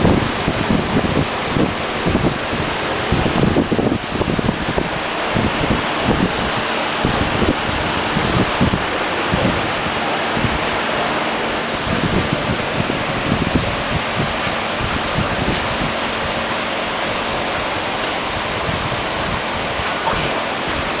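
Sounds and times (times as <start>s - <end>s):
aquarium air bubbling: 0.0s - 21.0s.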